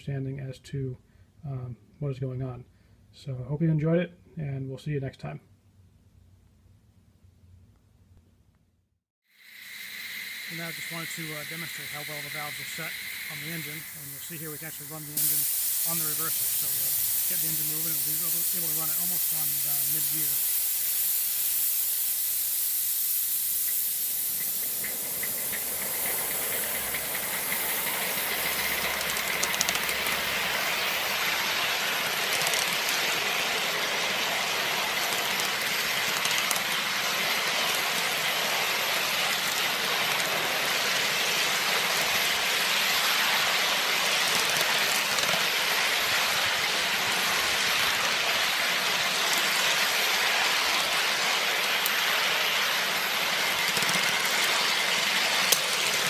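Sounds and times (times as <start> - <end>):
steam hissing: 9.3 - 56.0.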